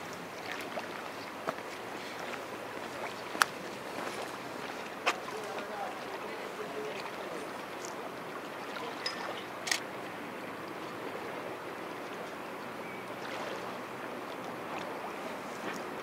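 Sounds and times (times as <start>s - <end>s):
sea water lapping at pier: 0.0s - 16.0s.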